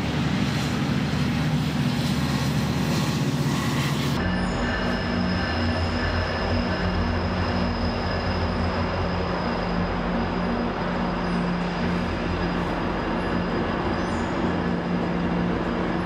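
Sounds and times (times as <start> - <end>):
train running on rails: 0.0 - 16.0
thin high whine: 1.8 - 16.0.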